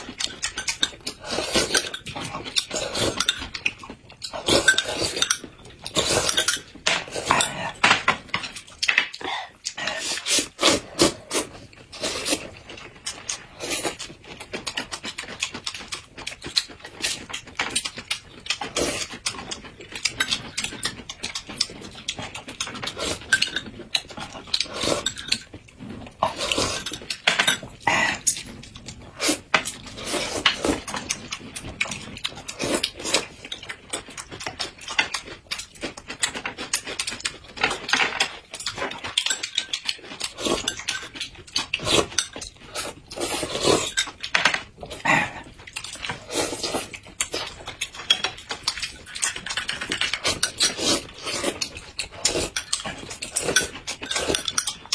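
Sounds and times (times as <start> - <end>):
noodles being slurped: 0.0 - 7.8, 9.2 - 17.9, 18.5 - 44.2, 44.8 - 54.9
wet chewing: 0.0 - 54.9.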